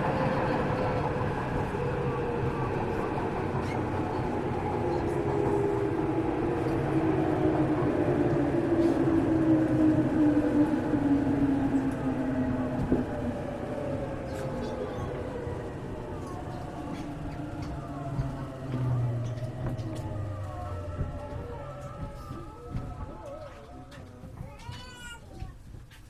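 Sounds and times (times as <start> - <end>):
wheel and rail rumble: 0.0 - 26.0.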